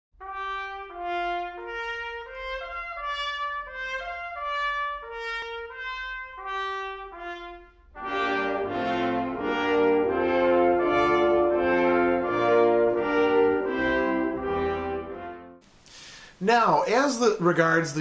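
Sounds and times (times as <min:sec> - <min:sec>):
brass melody: 0:00.1 - 0:15.7
fuller brass chords: 0:00.2 - 0:15.6.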